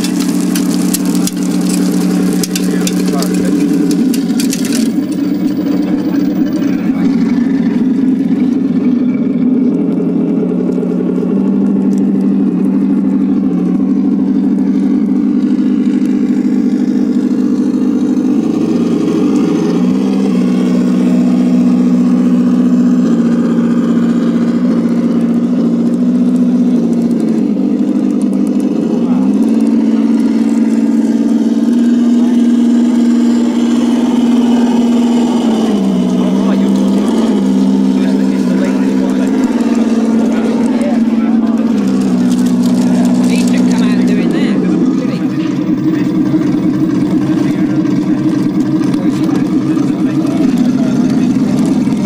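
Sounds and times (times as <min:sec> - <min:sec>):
model tank motor drone: 0:00.0 - 0:52.0.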